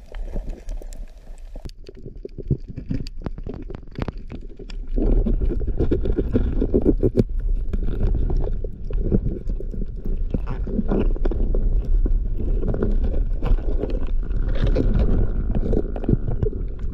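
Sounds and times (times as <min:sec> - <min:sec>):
underwater rumbling: 0:00.0 - 0:16.9.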